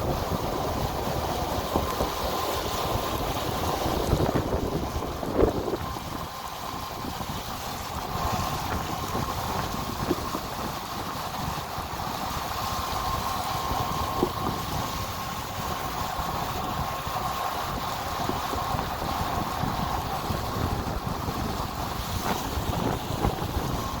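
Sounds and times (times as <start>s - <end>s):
steady rushing noise: 0.0s - 24.0s
wind buffeting microphone: 0.0s - 24.0s.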